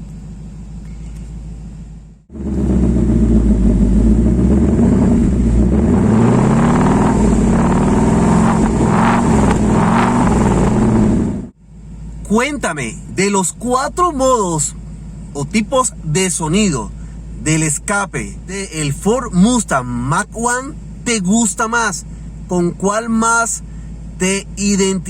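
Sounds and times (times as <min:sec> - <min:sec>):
car engine revving: 0:00.0 - 0:22.8.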